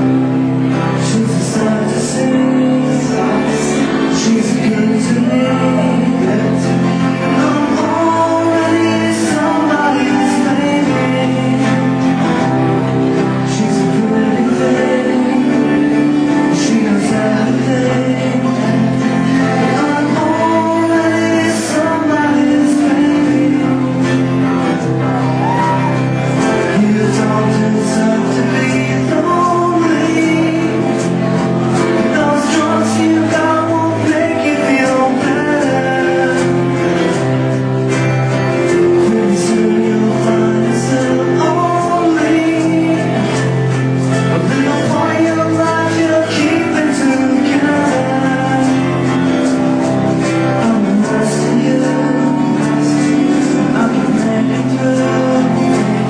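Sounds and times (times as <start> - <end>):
held instrumental chords: 0.0 - 56.0
live band music: 0.0 - 56.0
person singing: 0.0 - 56.0.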